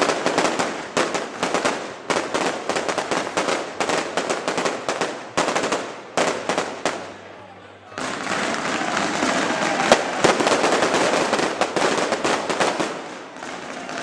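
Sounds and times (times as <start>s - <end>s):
continuous crackling haze: 0.0s - 14.0s
fireworks bangs and crackles: 0.0s - 14.0s.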